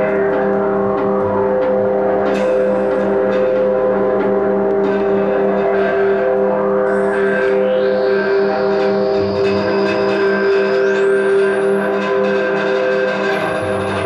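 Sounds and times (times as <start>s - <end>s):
drone of held tones: 0.0s - 14.0s.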